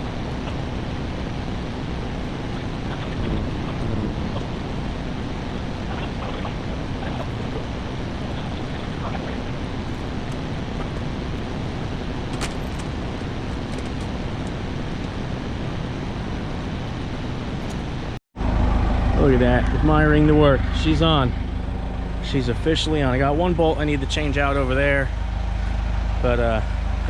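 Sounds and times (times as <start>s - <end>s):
engine running with low hum: 0.0s - 27.0s.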